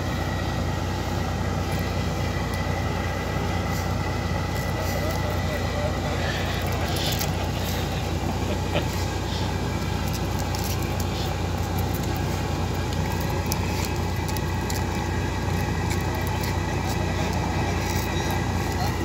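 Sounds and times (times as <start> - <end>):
constant background noise: 0.0 - 19.0
low mechanical hum: 0.0 - 19.0.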